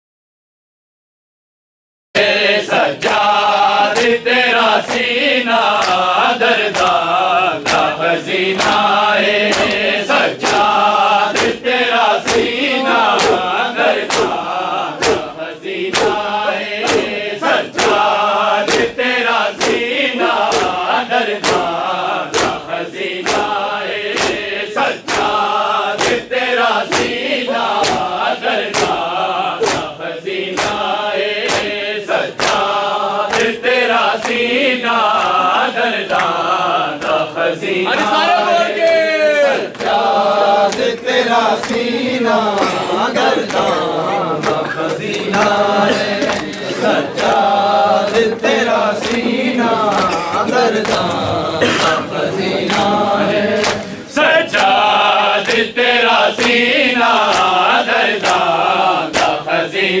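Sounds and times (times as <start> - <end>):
men chanting in unison: 2.2 - 60.0
hands slapping bare chests: 3.0 - 17.2, 17.8 - 19.0, 19.6 - 26.3, 26.9 - 31.8, 32.4 - 53.0, 53.6 - 54.0, 54.6 - 55.7, 56.4 - 56.6, 57.2 - 59.4.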